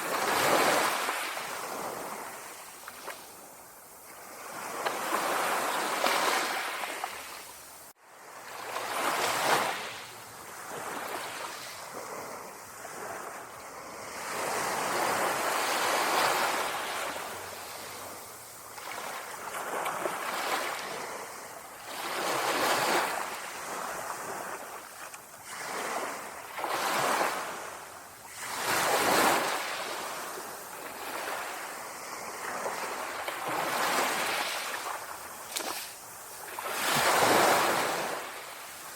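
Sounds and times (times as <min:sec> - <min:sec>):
light breeze: 0:00.0 - 0:38.9
small waves lapping on shore: 0:00.0 - 0:38.9.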